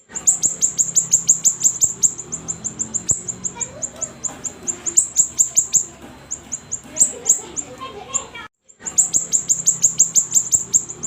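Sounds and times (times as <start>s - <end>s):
songbird singing high chirps: 0.0s - 11.0s.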